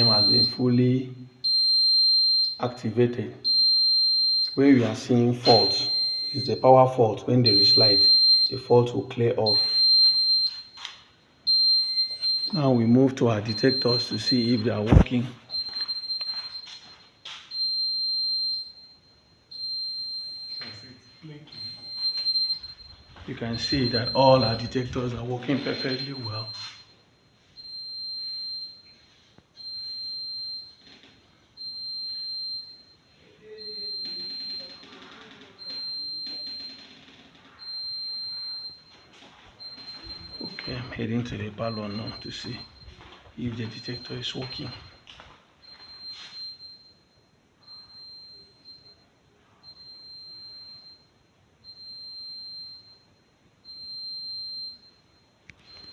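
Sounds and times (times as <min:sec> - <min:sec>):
smoke detector beeping: 0:00.0 - 0:55.9.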